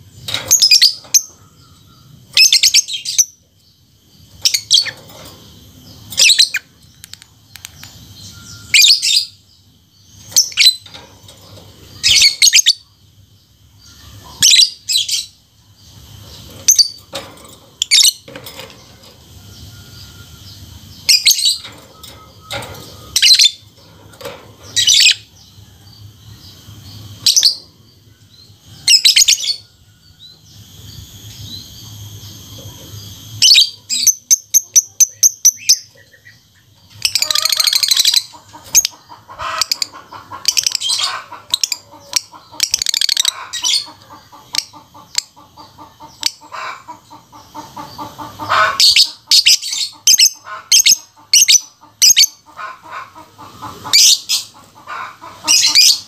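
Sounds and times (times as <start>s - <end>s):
bird chattering chirps: 0.0s - 56.0s.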